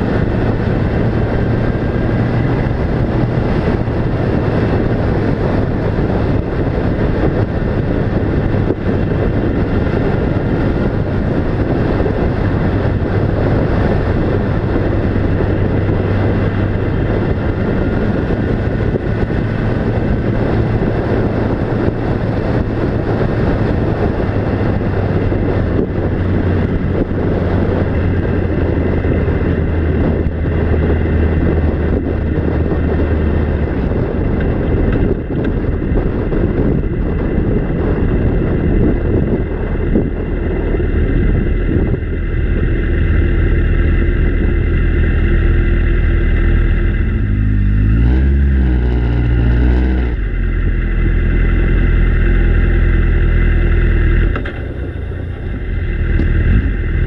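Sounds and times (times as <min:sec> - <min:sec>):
road and wind noise: 0:00.0 - 0:57.0
vehicle engine droning: 0:00.0 - 0:57.0.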